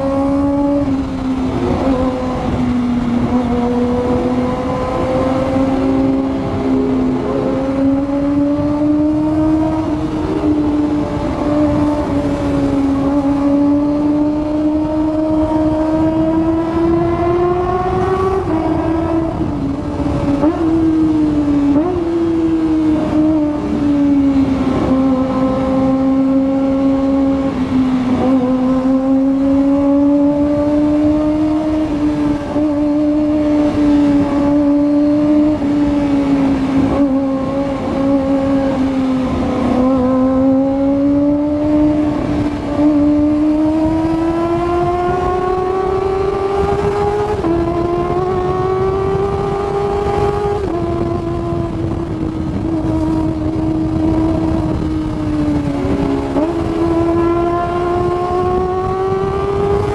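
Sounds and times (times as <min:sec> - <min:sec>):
motorcycle engine at high revs: 0:00.0 - 0:59.9
wind rush: 0:00.0 - 0:59.9.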